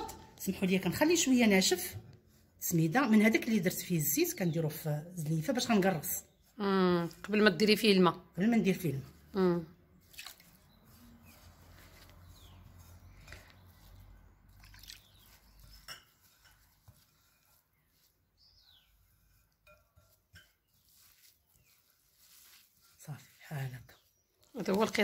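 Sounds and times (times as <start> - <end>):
hand rubbing semolina on a plate: 1.0 - 7.5, 8.5 - 25.0.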